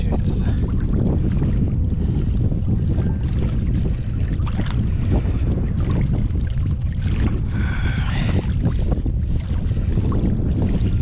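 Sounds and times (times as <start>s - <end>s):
water sloshing and splashing: 0.0s - 11.0s
wind buffeting microphone: 0.0s - 11.0s.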